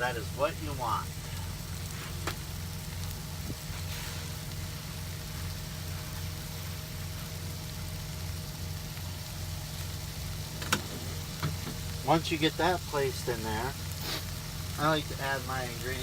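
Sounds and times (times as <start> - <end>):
chicken sizzling in a frying pan: 0.0 - 16.0
engine idling hum: 0.0 - 16.0.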